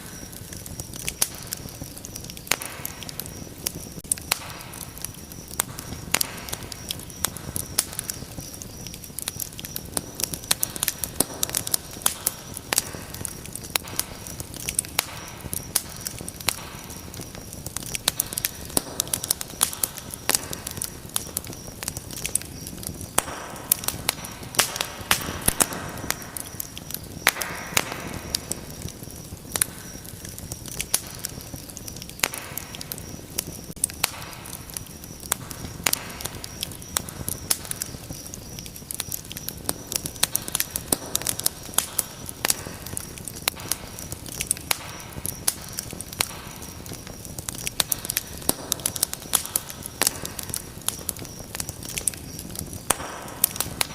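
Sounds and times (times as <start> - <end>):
fire crackling: 0.0 - 53.9
sharp pops and snaps: 0.0 - 53.9.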